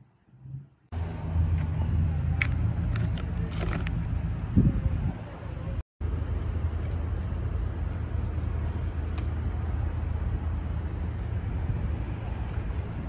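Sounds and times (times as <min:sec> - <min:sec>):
low outdoor rumble: 0:00.3 - 0:13.0.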